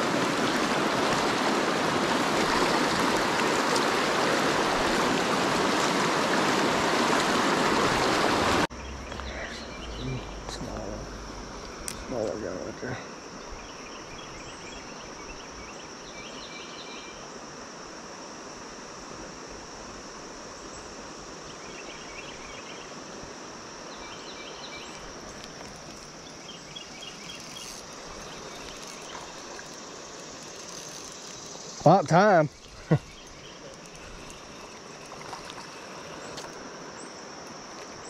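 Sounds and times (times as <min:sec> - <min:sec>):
creek water over rocks: 0:00.0 - 0:16.0, 0:17.3 - 0:38.0
high insect drone: 0:00.0 - 0:38.0
insects chirping trills: 0:00.0 - 0:38.0.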